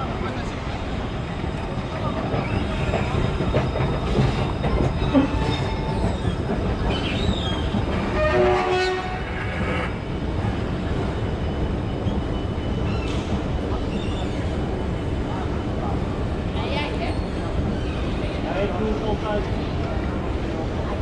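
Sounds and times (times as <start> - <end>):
train rumbling on tracks: 0.0 - 21.0.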